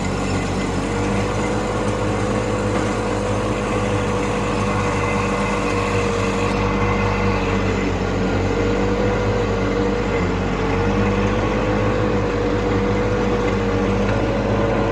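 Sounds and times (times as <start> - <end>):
garden tractor engine mowing: 0.0 - 14.9.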